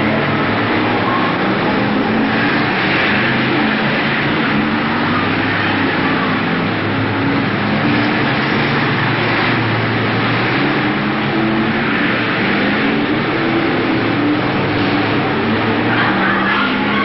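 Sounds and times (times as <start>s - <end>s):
racing car engines droning: 0.0s - 17.0s.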